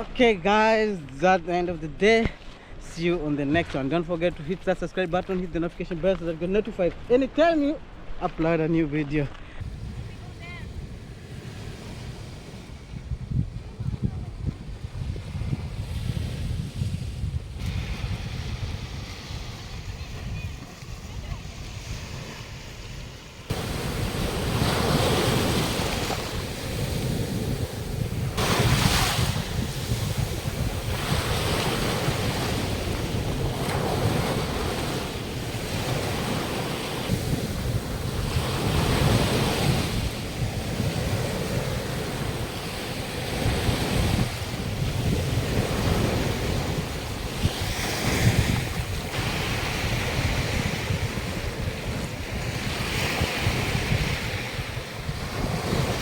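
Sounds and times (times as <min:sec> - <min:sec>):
sea waves washing on a beach: 0:06.8 - 0:56.0
wind buffeting the microphone: 0:09.4 - 0:56.0.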